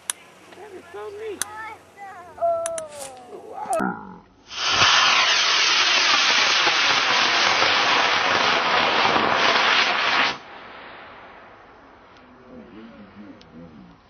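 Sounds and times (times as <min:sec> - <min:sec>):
loud rushing hiss: 0:00.0 - 0:03.2, 0:04.4 - 0:13.4.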